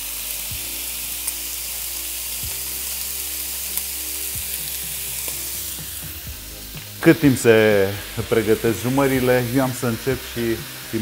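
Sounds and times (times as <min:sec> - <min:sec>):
pork frying sizzle: 0:00.0 - 0:11.0.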